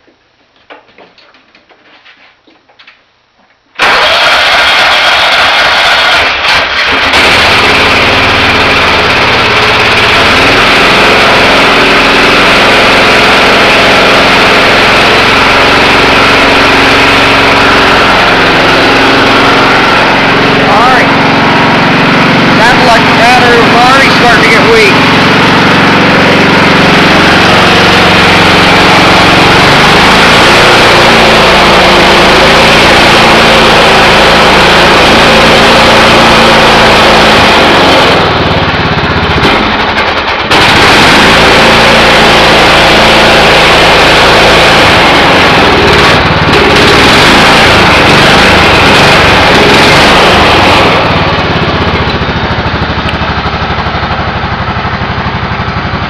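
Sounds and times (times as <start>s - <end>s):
garden tractor engine running: 3.8s - 56.0s.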